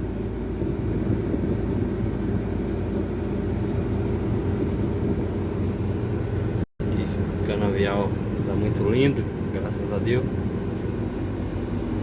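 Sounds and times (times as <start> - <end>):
truck diesel engine humming: 0.0 - 12.0.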